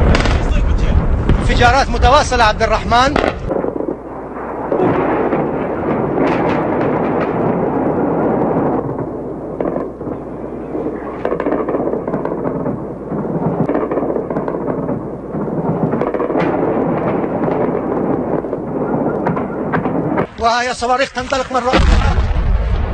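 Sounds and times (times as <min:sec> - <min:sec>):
explosions rumbling: 0:00.0 - 0:22.9
sharp explosion cracks: 0:00.0 - 0:22.9.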